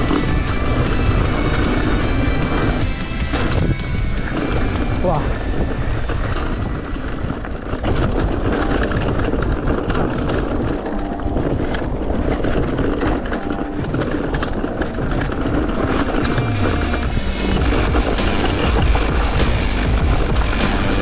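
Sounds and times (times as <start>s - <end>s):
bike rattling over bumps: 0.0s - 21.0s
bike tyres on dirt: 0.0s - 21.0s
wind rumbling on microphone: 0.0s - 21.0s.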